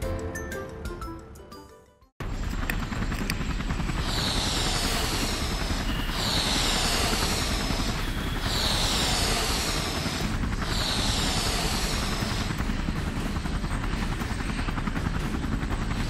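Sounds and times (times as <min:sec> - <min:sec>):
helicopter rotor chop: 0:02.2 - 0:16.0.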